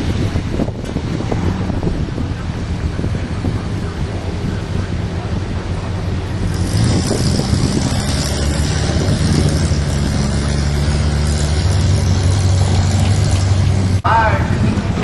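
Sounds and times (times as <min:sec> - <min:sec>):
car engine running: 0:00.0 - 0:14.1.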